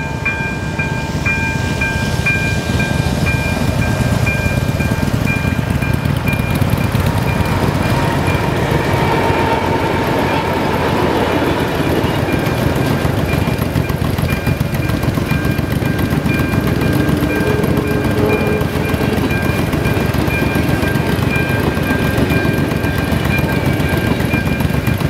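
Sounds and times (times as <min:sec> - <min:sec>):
level crossing warning bell: 0:00.0 - 0:25.0
train rumbling past: 0:00.0 - 0:25.0.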